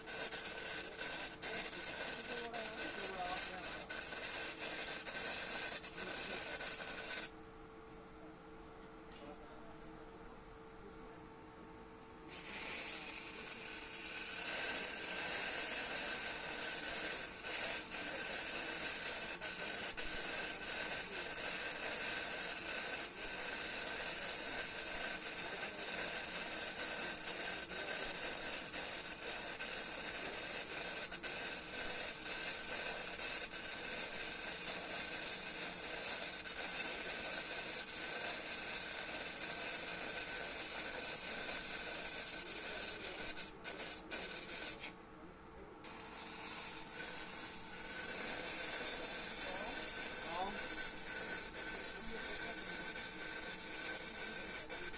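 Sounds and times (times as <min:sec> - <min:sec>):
arc welding hiss: 0:00.0 - 0:07.4, 0:12.3 - 0:45.0, 0:45.8 - 0:54.9.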